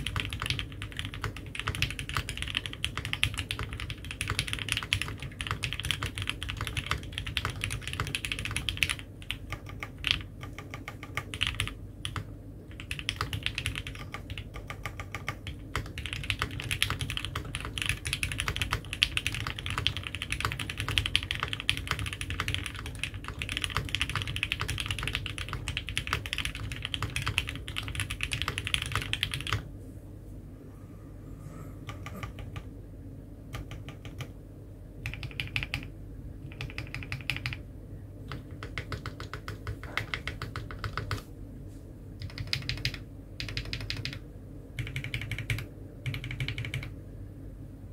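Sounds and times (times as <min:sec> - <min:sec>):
mechanical keyboard typing: 0:00.0 - 0:29.7, 0:31.9 - 0:32.7, 0:33.5 - 0:34.4, 0:35.0 - 0:37.6, 0:38.3 - 0:41.3, 0:42.2 - 0:44.2, 0:44.8 - 0:47.0.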